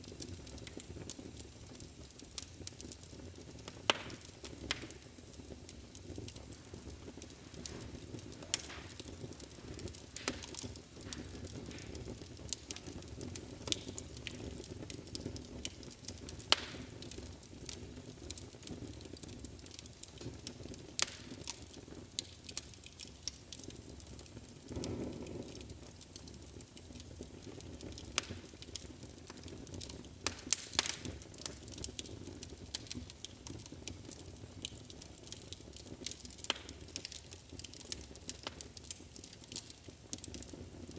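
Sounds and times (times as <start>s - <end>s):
fire crackles and pops: 0.0s - 40.9s
wood fire burning: 0.0s - 40.9s.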